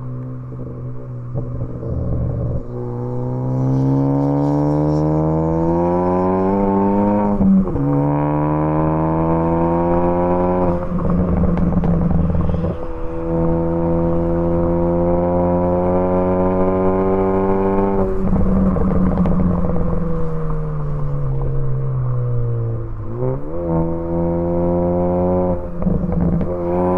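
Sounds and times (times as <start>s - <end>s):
exhaust crack: 0.0s - 8.2s, 8.8s - 14.8s, 15.7s - 24.2s
car engine accelerating hard: 0.0s - 26.9s.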